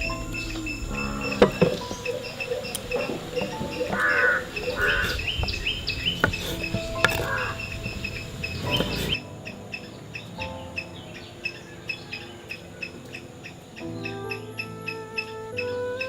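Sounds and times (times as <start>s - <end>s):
bird chirps: 0.0s - 15.8s
insect calls: 0.0s - 15.8s.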